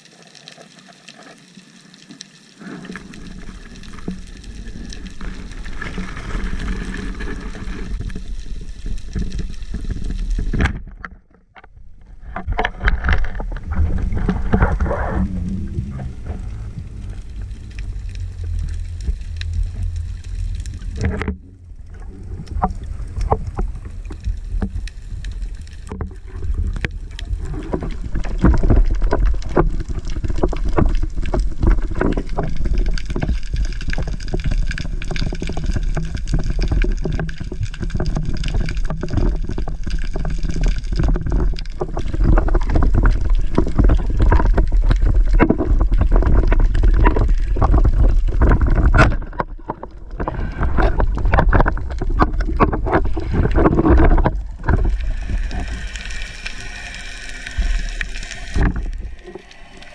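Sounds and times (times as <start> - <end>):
underwater crackle of clicks: 0.0 - 59.9
underwater rush of water: 0.0 - 59.9.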